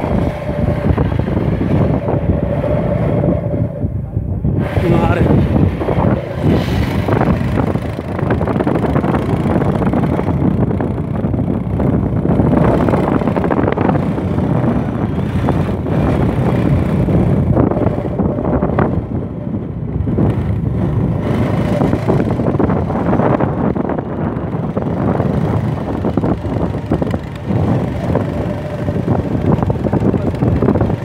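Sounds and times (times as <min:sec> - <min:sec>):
vehicle engine running: 0:00.0 - 0:31.0
wind buffeting microphone: 0:00.0 - 0:31.0.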